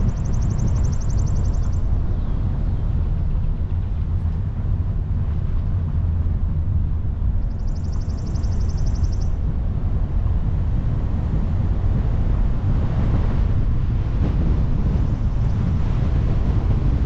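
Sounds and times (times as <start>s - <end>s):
car wind and tyre noise: 0.0s - 17.0s.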